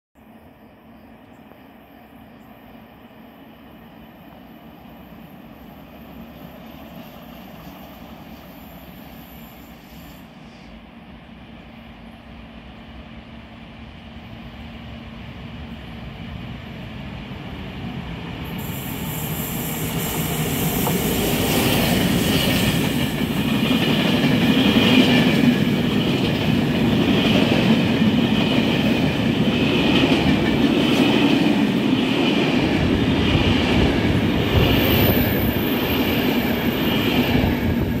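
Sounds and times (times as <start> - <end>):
diesel locomotive passing: 0.2 - 38.0.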